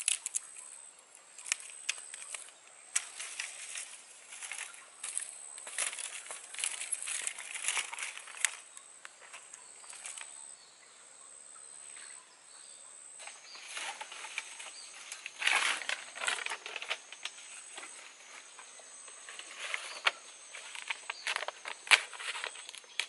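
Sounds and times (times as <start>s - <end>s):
bamboo sticks clattering: 0.0s - 0.6s, 1.3s - 10.3s, 13.2s - 23.0s
rustling and crunching: 0.0s - 10.4s, 13.2s - 23.0s.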